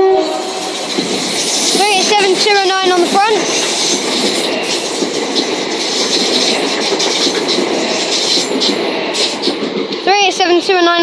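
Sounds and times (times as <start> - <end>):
train wheels clattering over rail joints: 0.7 - 10.5.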